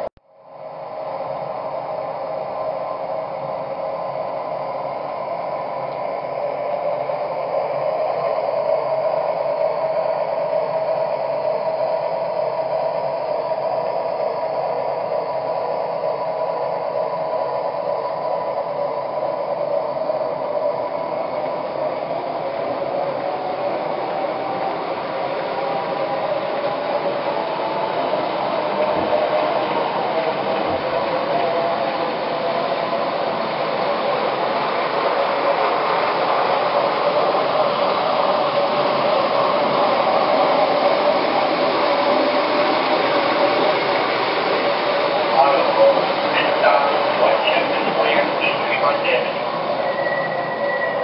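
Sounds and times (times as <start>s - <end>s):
model train whirring: 0.6s - 51.0s.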